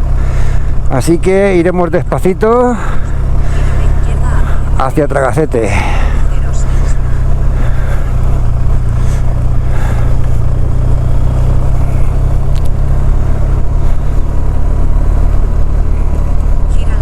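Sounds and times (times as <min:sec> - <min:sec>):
motorcycle engine droning: 0:00.0 - 0:17.0
wind and road noise: 0:00.0 - 0:17.0.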